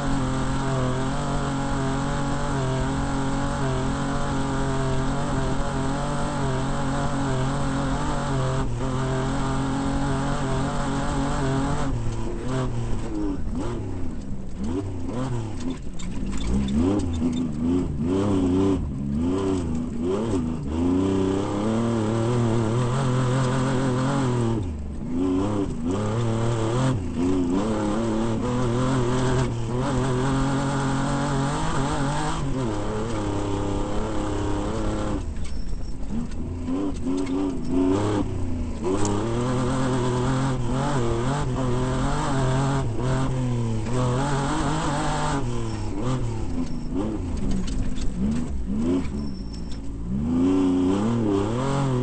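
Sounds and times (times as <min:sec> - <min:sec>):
race vehicle engine revving: 0:00.0 - 0:52.0.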